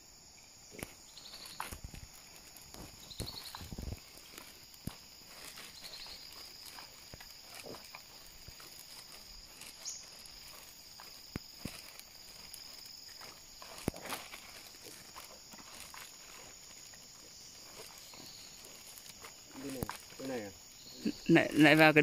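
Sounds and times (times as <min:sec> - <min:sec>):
high-pitched insect chorus: 0:00.0 - 0:22.0
footsteps on wet pavement: 0:00.8 - 0:22.0.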